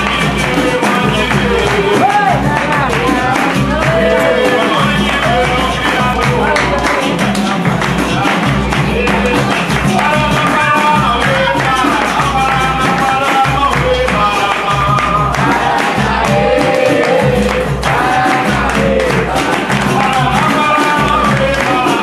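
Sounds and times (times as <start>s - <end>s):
hand percussion: 0.0s - 22.0s
people clapping in rhythm: 0.0s - 22.0s
voices singing: 0.0s - 22.0s.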